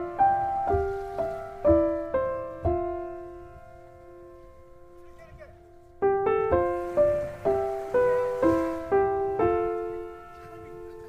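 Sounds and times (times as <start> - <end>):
slow gentle piano music: 0.0 - 11.0.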